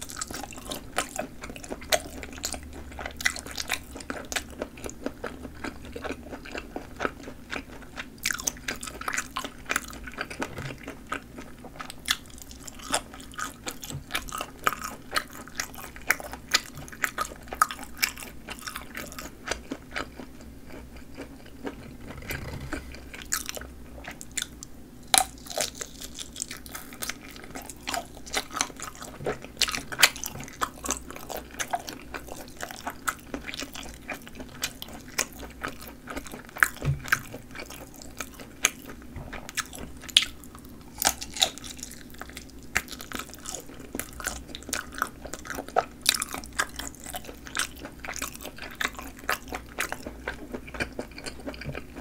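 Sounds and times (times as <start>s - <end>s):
chewing and biting sausages: 0.0s - 52.0s
faint low hum: 0.0s - 52.0s.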